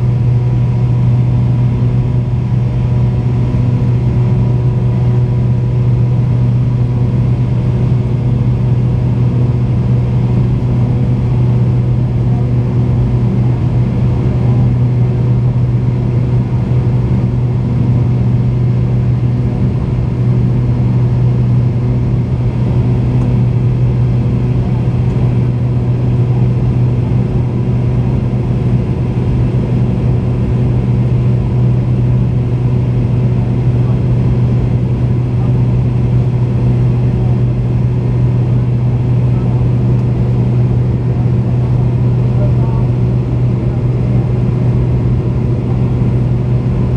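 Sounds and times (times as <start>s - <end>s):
airliner engine drone in cabin: 0.0s - 46.9s.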